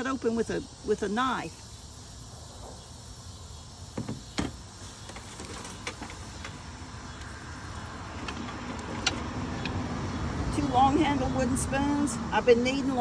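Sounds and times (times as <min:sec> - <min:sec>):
insects: 0:00.0 - 0:13.0.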